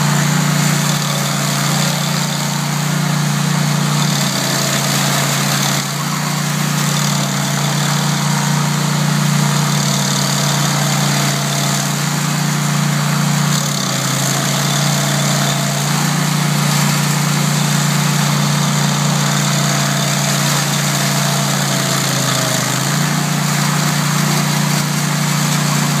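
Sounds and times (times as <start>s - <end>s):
stump grinder engine running: 0.0s - 26.0s.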